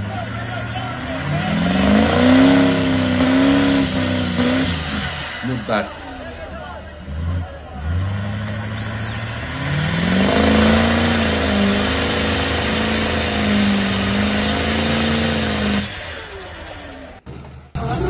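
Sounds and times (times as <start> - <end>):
engine revving hard: 0.0 - 6.0, 6.9 - 17.2.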